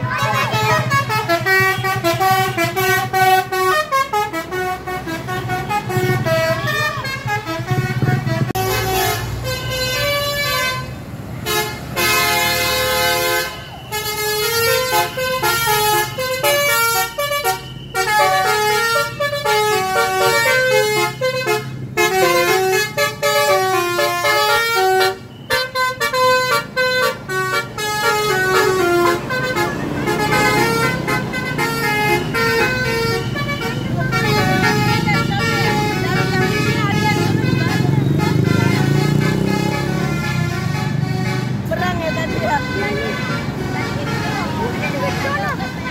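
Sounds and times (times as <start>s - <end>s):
bus engine humming: 0.0s - 45.9s
multi-tone musical bus horn: 0.0s - 45.9s.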